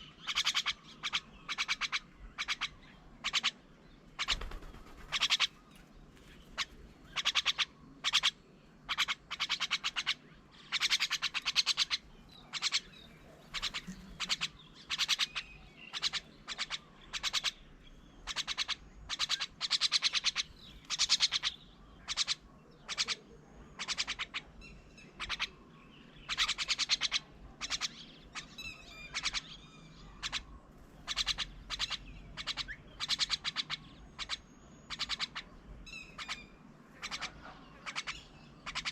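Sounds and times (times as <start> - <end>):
birds rattling chatter: 0.0 - 38.9.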